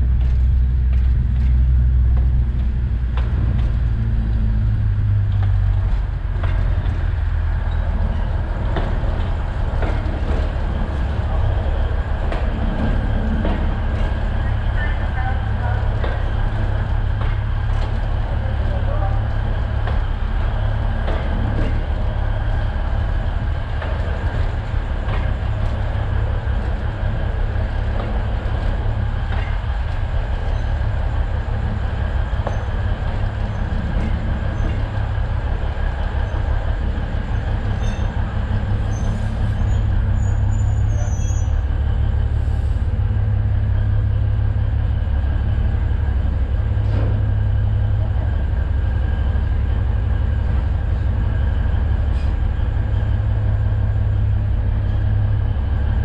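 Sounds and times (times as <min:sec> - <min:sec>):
train engine rumble: 0:00.0 - 0:56.0.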